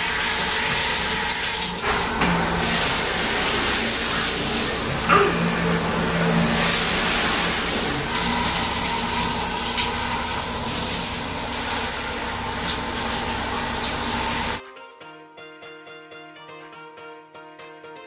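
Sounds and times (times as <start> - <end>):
shower spray splashing into bathtub: 0.0 - 14.6.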